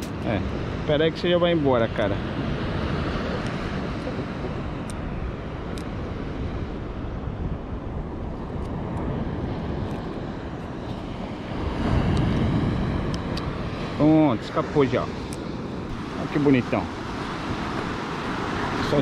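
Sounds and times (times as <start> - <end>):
surf on a beach: 0.0 - 19.0
wind: 0.0 - 19.0.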